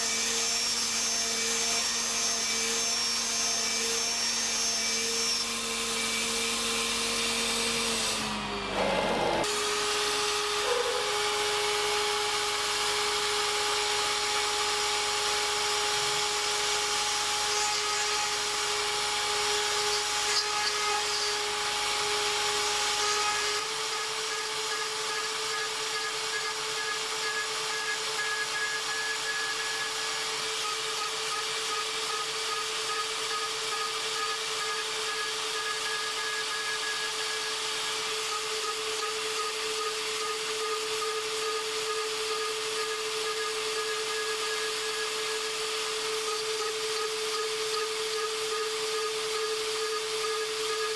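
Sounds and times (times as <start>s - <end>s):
router spindle whining: 0.0s - 50.9s
end mill cutting metal: 4.3s - 50.9s.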